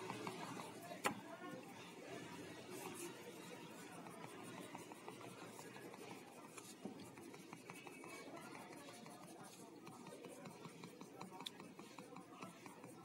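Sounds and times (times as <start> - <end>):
crayon scratching on paper: 0.0 - 13.0.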